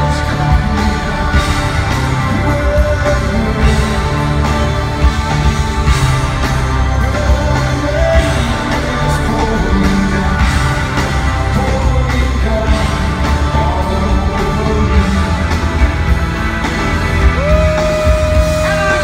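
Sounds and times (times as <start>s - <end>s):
person singing: 0.0s - 5.4s, 6.8s - 16.1s, 17.3s - 19.0s
live rock band playing: 0.0s - 19.0s.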